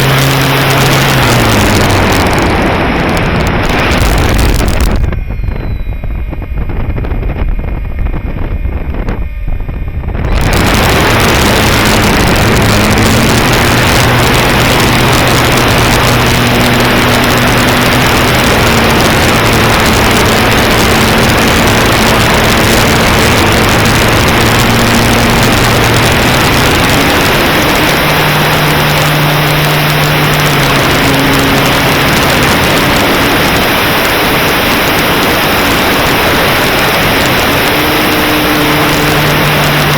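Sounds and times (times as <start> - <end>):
faint hum changing pitch: 0.0 - 39.9
wind buffeting microphone: 0.0 - 39.9.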